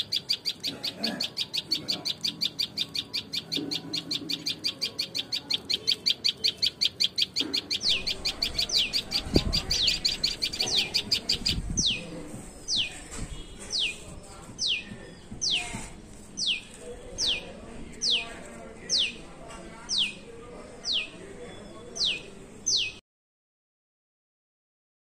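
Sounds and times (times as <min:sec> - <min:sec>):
bird high chirps: 0:00.0 - 0:19.2, 0:19.8 - 0:23.0.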